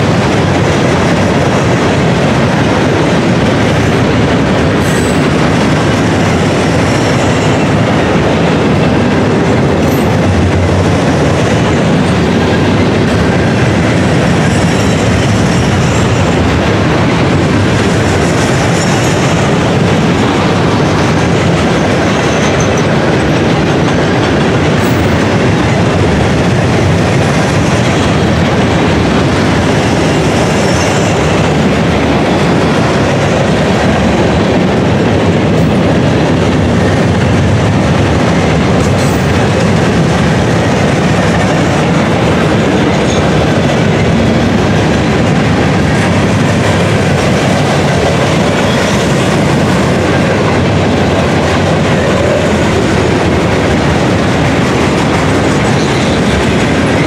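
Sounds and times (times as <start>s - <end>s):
freight train rolling past: 0.0s - 57.0s
steel wheels clattering on rails: 0.0s - 57.0s.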